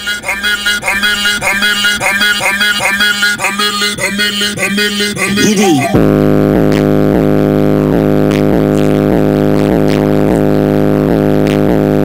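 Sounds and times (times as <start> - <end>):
hip-hop beat through car speakers: 0.0 - 12.0.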